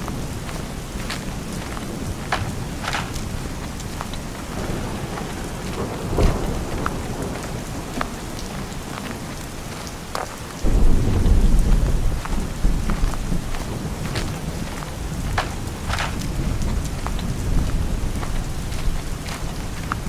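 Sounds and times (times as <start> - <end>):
rain falling: 0.0 - 20.0
thunder rumbling: 0.0 - 20.0.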